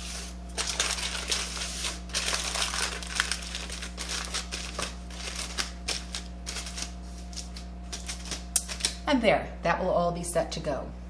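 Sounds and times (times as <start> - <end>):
aluminum foil crinkling: 0.0 - 9.0.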